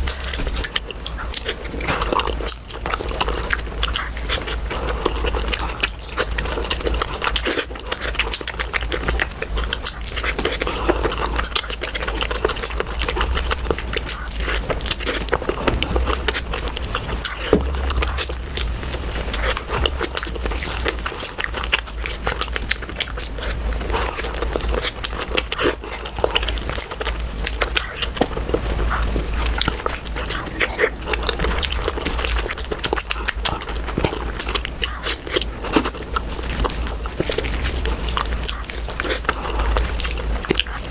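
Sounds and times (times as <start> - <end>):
chewing and biting food: 0.0 - 40.9.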